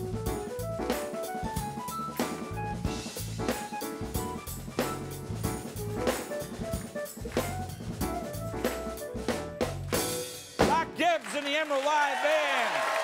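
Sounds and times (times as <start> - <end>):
band playing jazzy groove: 0.0 - 11.1.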